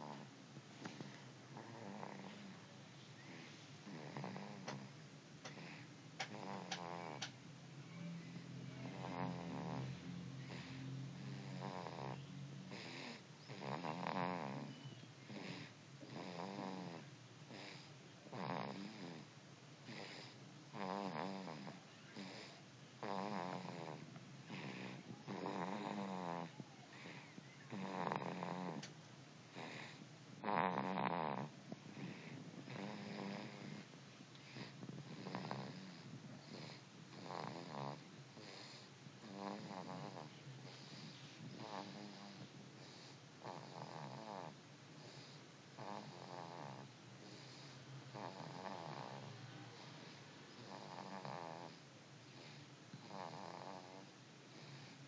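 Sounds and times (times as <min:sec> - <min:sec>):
rattling snores: 0:00.0 - 0:07.4, 0:08.0 - 0:55.0.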